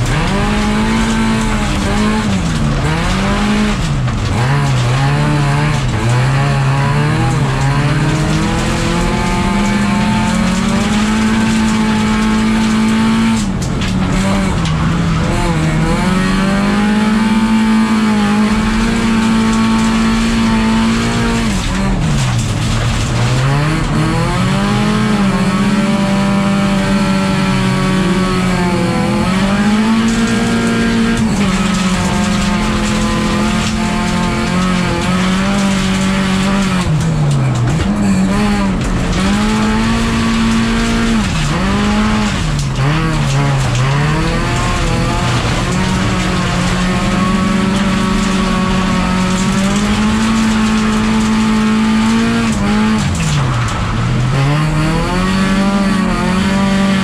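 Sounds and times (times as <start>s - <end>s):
racing car engine at high revs: 0.0s - 57.0s
tyre and road noise: 0.0s - 57.0s.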